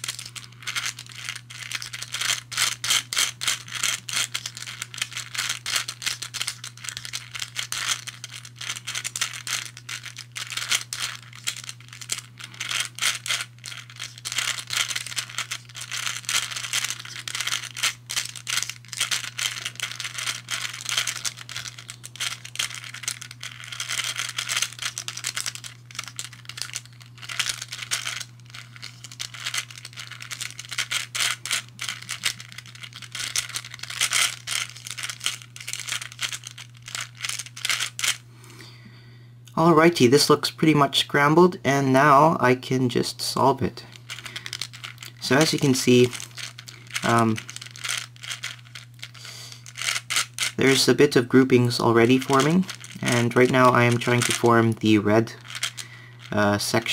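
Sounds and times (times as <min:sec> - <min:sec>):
puzzle balls clicking and rattling: 0:00.0 - 0:38.2, 0:43.9 - 0:56.9.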